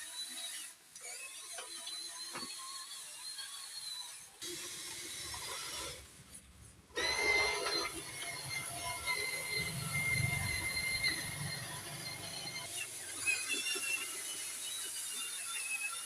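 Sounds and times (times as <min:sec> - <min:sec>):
small electric motor whining: 0:00.0 - 0:06.4, 0:07.0 - 0:16.0.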